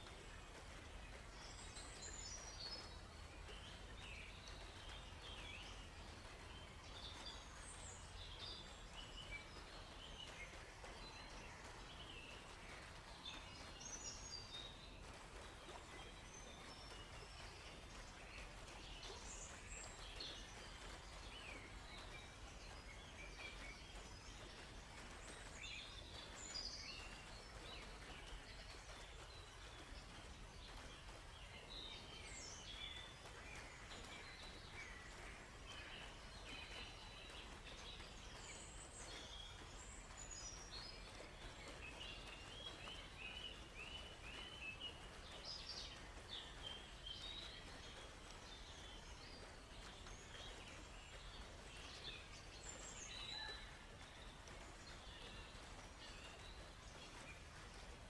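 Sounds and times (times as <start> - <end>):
low background hiss: 0.0 - 58.0
songbirds chirping: 0.0 - 58.0.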